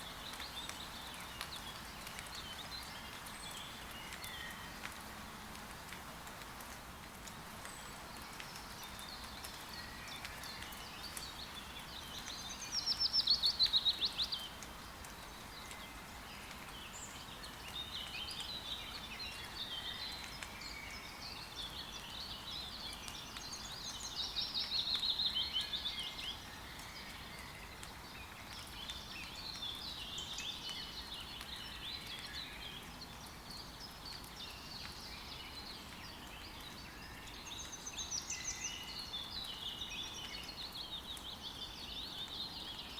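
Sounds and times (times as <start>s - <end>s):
forest birds singing and calling: 0.0s - 5.1s, 7.2s - 42.9s
faint rain hiss: 0.0s - 42.9s.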